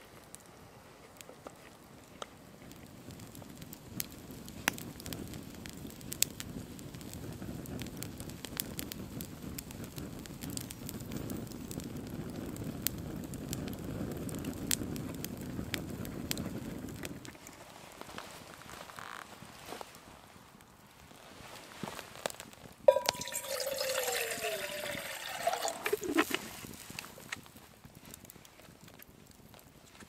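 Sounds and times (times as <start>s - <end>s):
wood crackling and popping: 0.0s - 20.3s, 21.1s - 30.0s
campfire flames rushing: 0.2s - 30.0s.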